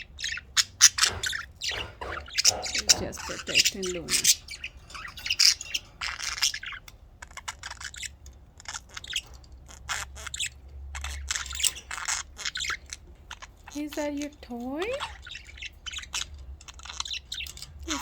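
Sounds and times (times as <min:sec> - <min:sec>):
budgerigars chirping: 0:00.0 - 0:18.0.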